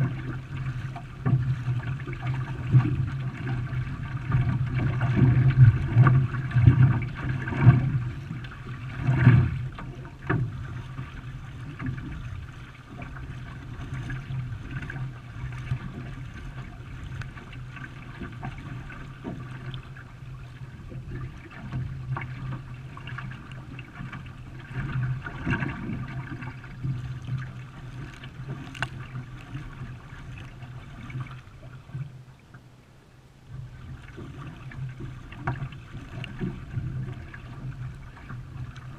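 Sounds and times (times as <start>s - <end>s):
water splashing around canoe: 0.0s - 38.9s.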